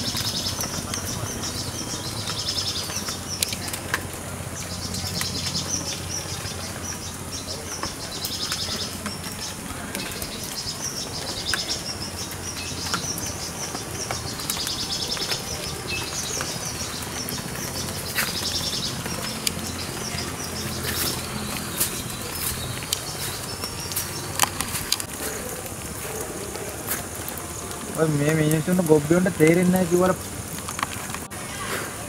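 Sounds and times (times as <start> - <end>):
birds trilled chirps: 0.0 - 31.3
grass rustling on microphone: 0.0 - 32.0.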